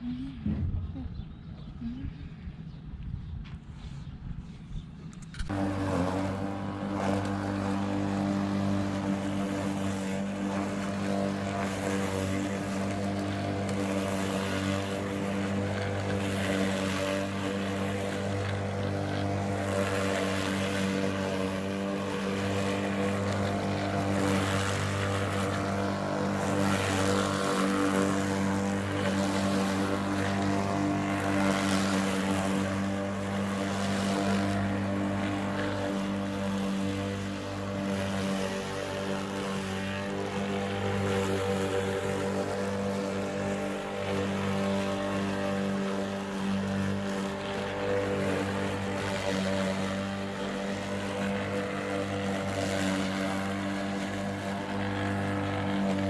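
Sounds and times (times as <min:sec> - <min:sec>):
steady motor drone: 0:04.5 - 0:56.0.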